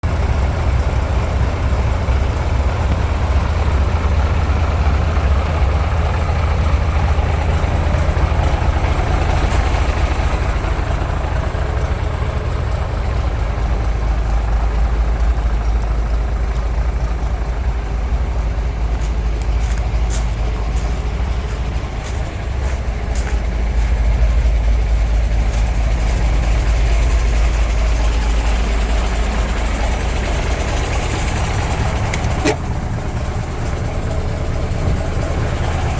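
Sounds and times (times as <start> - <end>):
truck diesel engine idling: 0.0 - 35.9.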